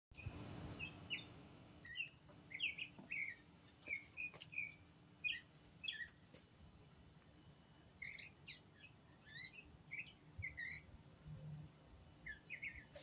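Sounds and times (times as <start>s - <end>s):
songbird chirping: 0.2s - 13.0s.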